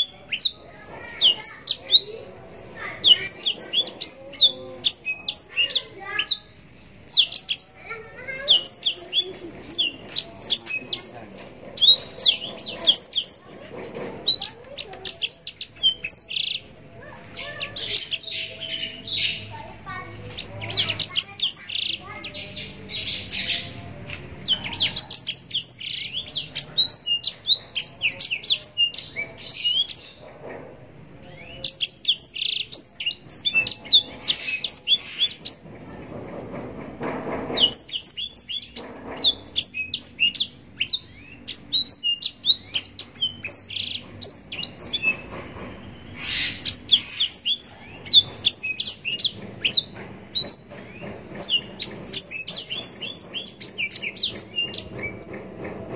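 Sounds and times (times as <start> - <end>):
canary singing chirps and trills: 0.0 - 55.9.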